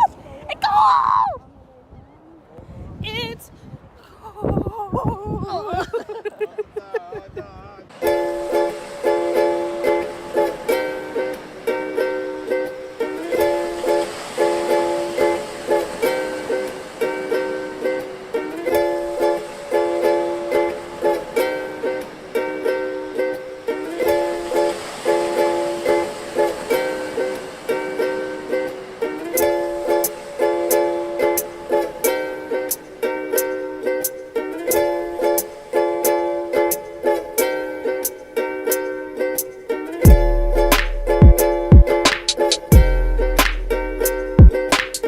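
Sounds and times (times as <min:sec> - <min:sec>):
ukulele hip-hop instrumental: 0:07.9 - 0:45.0.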